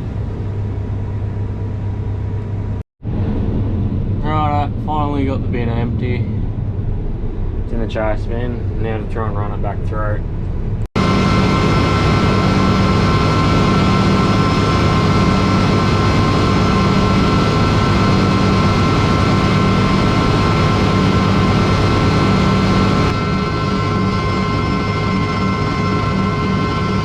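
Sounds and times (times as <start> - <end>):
combine harvester engine drone: 0.0 - 27.0
threshing drive whine: 0.0 - 27.0.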